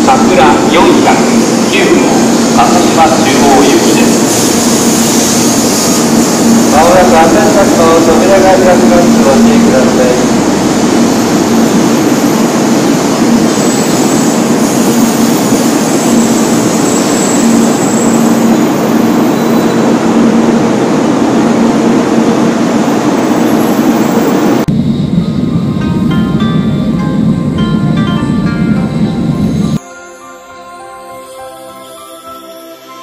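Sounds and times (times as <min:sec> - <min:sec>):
train rushing past: 0:00.0 - 0:33.0.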